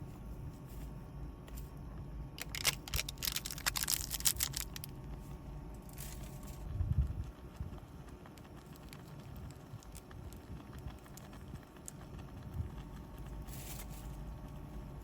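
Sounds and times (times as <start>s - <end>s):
steady low rumble: 0.0s - 15.0s
crinkling and clicking handling noise: 2.4s - 14.9s.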